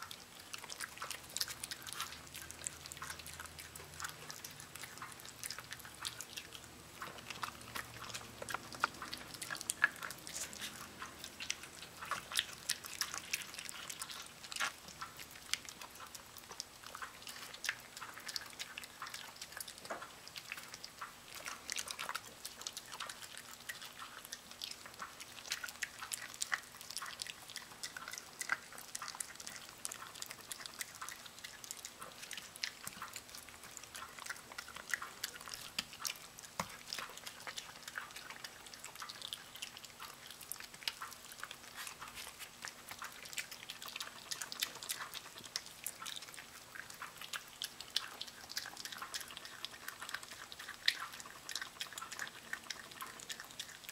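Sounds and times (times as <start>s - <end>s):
dog chewing raw meat: 0.0s - 53.9s.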